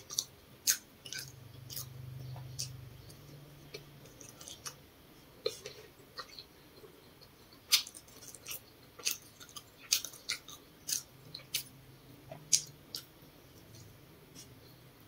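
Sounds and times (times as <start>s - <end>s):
person chewing potato: 0.0s - 14.8s.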